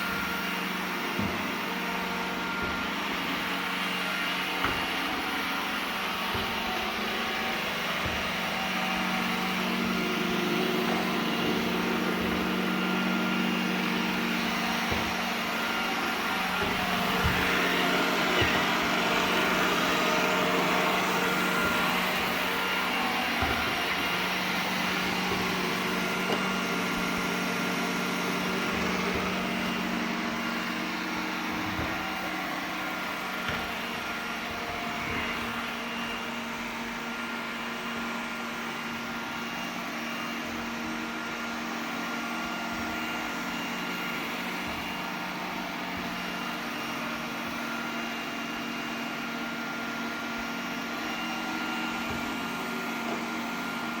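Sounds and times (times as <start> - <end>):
robot vacuum humming: 0.0 - 54.0.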